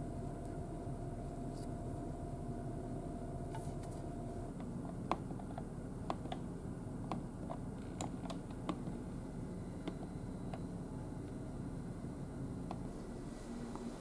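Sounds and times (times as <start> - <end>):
engine and ventilation hum: 0.0 - 14.0.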